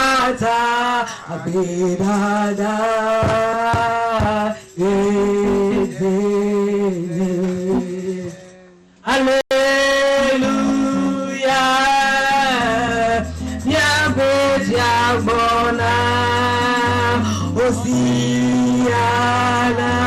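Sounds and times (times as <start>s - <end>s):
person singing slow worship song: 0.0s - 20.0s.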